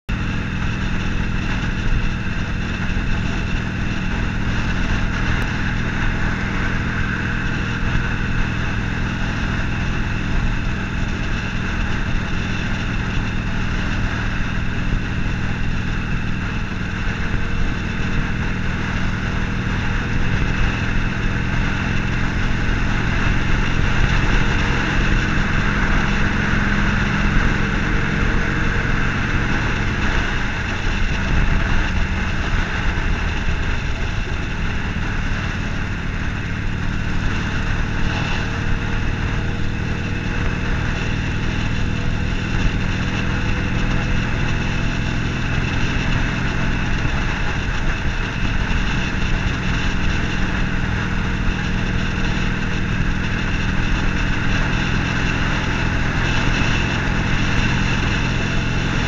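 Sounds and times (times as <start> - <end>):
motorcycle engine cruising: 0.0 - 59.0
road and wind rush: 0.0 - 59.0.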